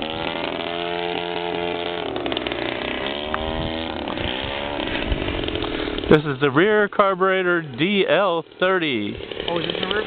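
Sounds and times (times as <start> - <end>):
model plane engine buzzing: 0.0 - 10.0.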